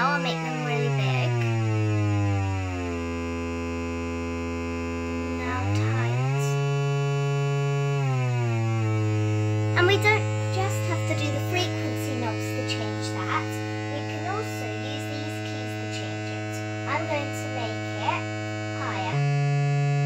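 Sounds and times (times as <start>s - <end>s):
synthesizer low buzzy tone: 0.0s - 20.0s.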